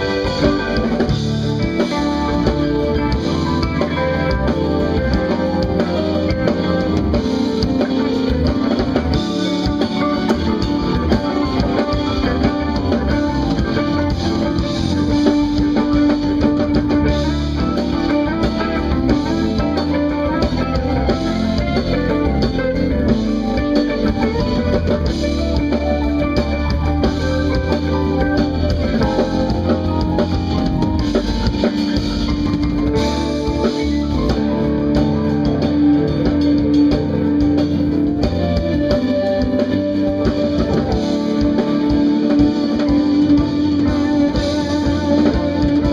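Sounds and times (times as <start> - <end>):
drum kit: 0.0 - 45.9
electric bass: 0.0 - 45.9
electric guitar: 0.0 - 45.9
keyboards: 0.0 - 45.9.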